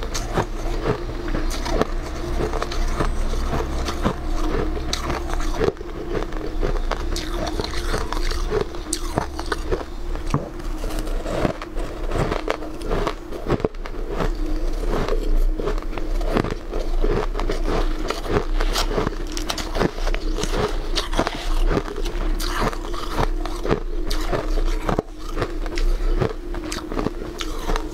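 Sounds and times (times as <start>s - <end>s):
chewing shaved ice: 0.0s - 27.9s.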